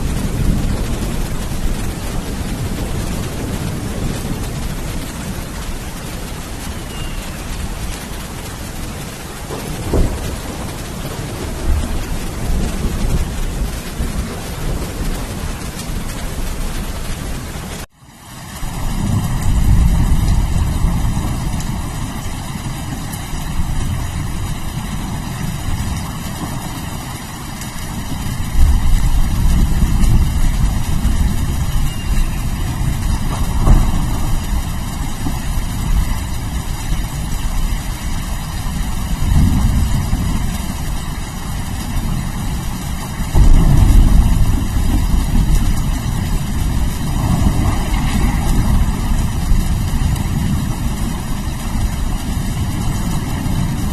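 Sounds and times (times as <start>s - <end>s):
deep rolling thunder: 0.0s - 17.9s, 18.6s - 53.9s
rain hissing: 0.0s - 53.9s.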